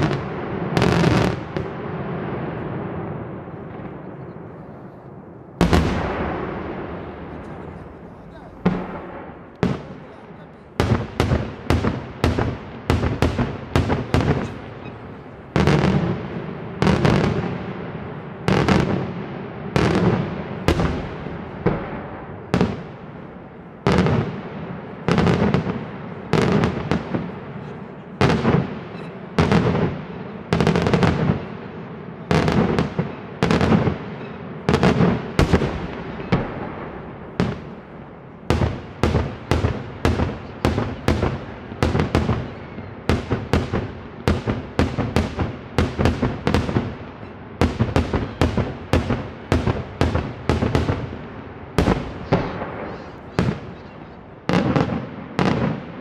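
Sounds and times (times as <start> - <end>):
rumbling echo: 0.0 - 47.1
fireworks bursting with loud bangs: 0.0 - 56.0.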